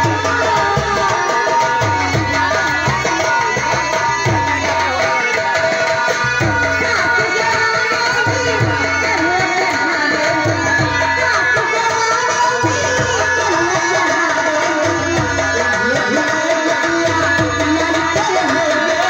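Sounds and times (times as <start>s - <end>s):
hand drums: 0.0s - 19.0s.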